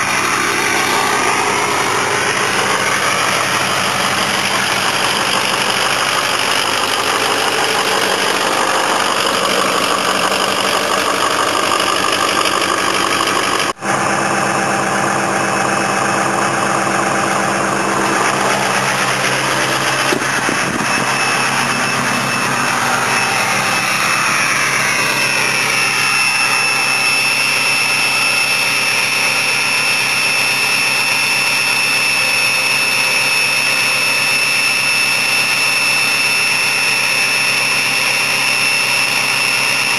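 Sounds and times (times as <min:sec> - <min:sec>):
diesel engine idling: 0:00.0 - 0:39.9
high turbo whistle: 0:00.0 - 0:39.9.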